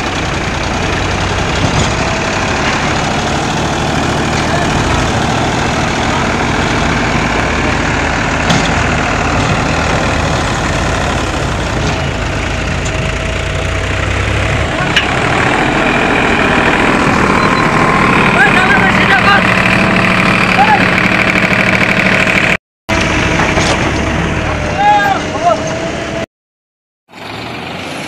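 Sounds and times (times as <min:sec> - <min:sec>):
diesel engines running: 0:00.0 - 0:26.3, 0:27.1 - 0:28.0.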